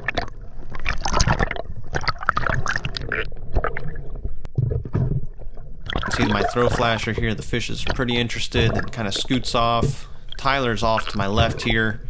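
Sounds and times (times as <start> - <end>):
water gurgling and bubbling: 0.0 - 12.0.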